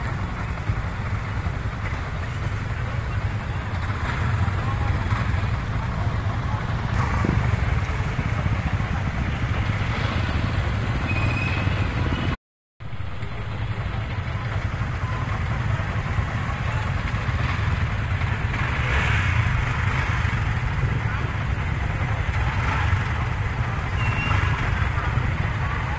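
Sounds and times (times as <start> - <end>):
motorcycle engine rumble: 0.0 - 25.9
road noise: 0.0 - 25.9.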